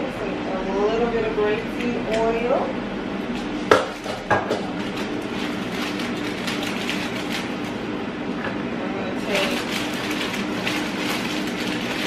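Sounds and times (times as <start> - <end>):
air fryer humming: 0.0 - 12.0.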